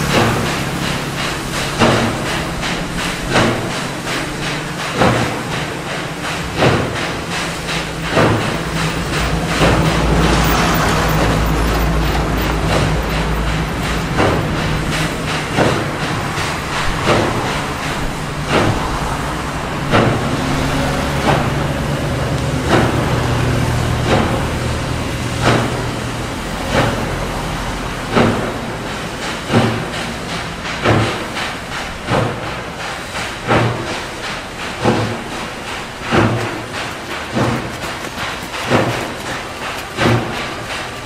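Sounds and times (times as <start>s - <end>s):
steam locomotive exhaust beats: 0.0s - 41.0s.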